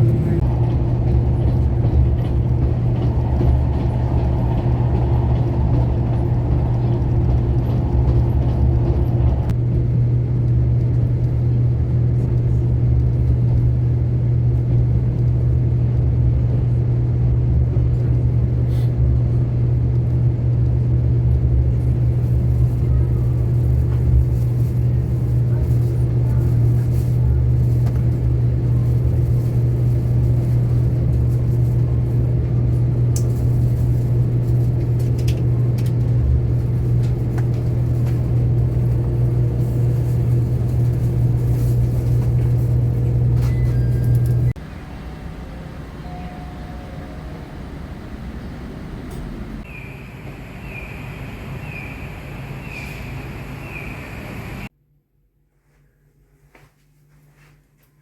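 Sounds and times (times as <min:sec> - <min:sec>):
vehicle engine rumble: 0:00.0 - 0:54.7.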